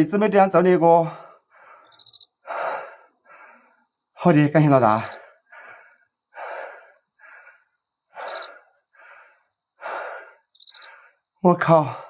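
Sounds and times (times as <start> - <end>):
man breathing hard: 1.1 - 4.1, 5.0 - 12.0.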